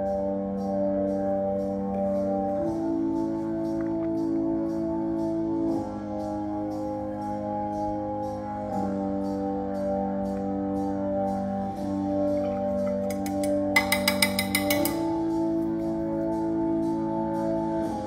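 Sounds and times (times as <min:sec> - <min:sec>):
organ-like keyboard chords: 0:00.0 - 0:18.0.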